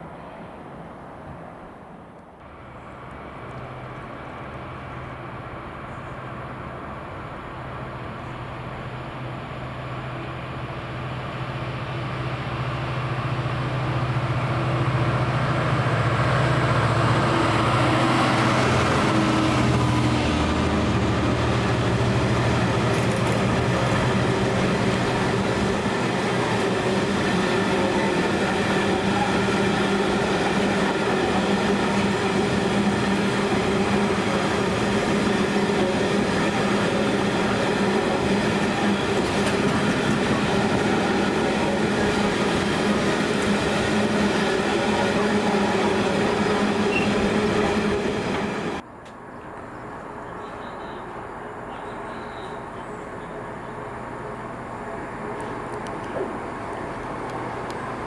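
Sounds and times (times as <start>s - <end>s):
diesel train engine passing: 0.0s - 58.0s
rail wheels clickety-clack: 8.0s - 49.7s, 50.4s - 58.0s.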